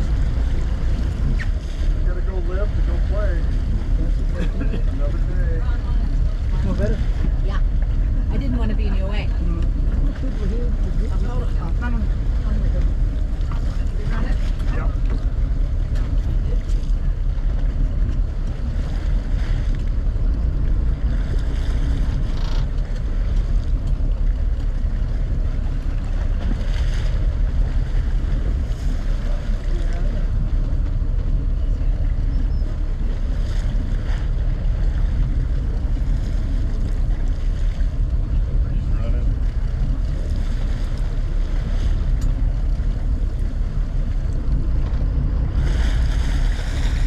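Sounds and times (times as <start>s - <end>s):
boat engine rumble: 0.0s - 47.0s
water noise: 0.0s - 47.0s
wind buffeting microphone: 0.0s - 47.0s
splashes: 9.1s - 47.0s.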